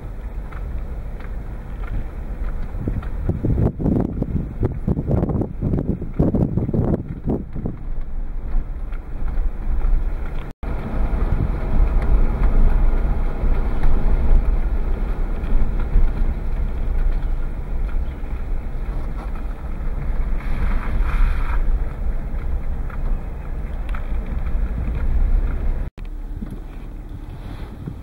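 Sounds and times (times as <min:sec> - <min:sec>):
road and engine rumble: 0:00.0 - 0:28.0
wind noise on microphone: 0:00.0 - 0:28.0.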